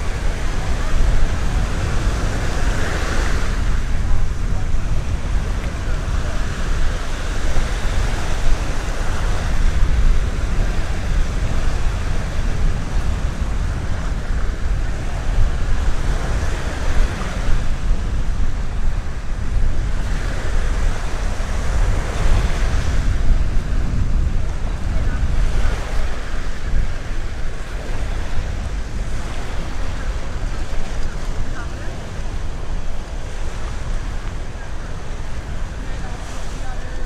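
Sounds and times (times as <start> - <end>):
surf breaking on beach: 0.0 - 37.0
wind rumble on microphone: 0.0 - 37.0.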